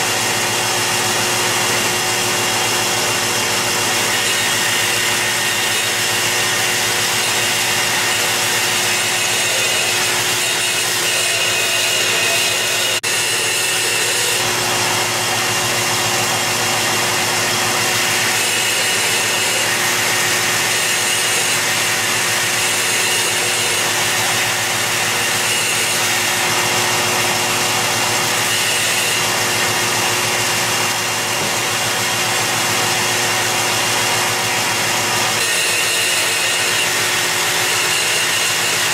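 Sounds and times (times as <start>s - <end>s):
belt grinder grinding steel: 0.0s - 38.9s.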